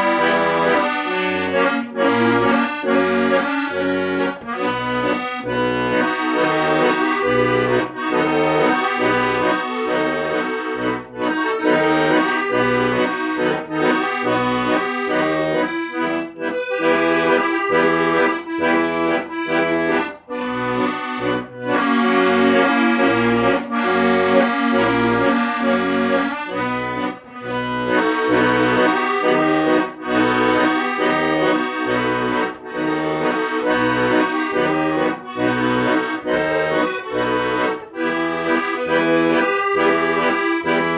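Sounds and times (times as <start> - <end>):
accordion playing a tune: 0.0 - 40.9.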